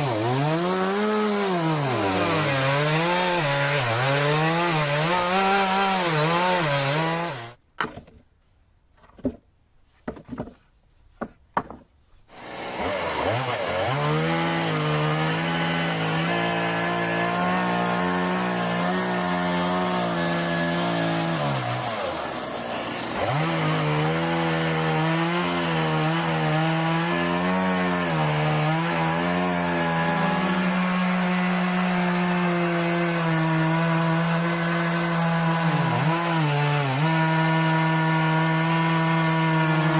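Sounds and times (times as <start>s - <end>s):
chainsaw cutting log: 0.0s - 8.1s, 11.6s - 39.9s.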